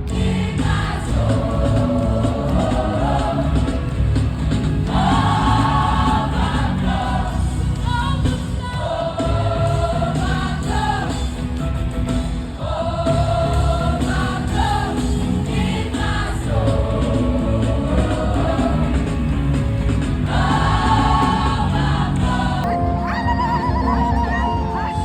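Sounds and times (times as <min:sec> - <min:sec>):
instrumental backing with heavy bass: 0:00.0 - 0:08.4, 0:09.2 - 0:25.0
gospel choir singing: 0:00.0 - 0:25.0.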